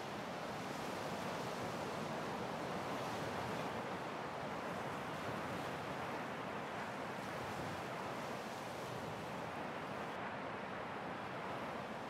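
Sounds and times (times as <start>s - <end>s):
ocean surf on a beach: 0.0s - 12.0s.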